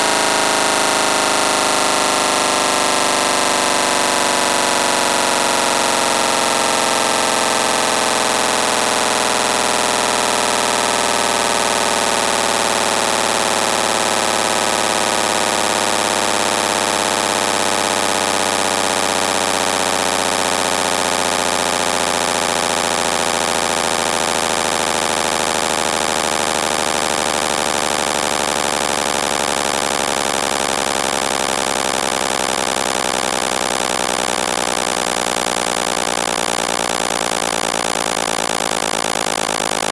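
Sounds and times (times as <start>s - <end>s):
synthesized buzzing engine drone: 0.0s - 39.9s.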